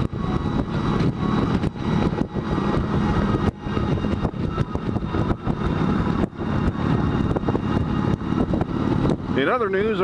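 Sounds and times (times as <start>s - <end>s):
motorcycle engine rumble: 0.0s - 10.0s
wind buffeting microphone: 0.0s - 10.0s.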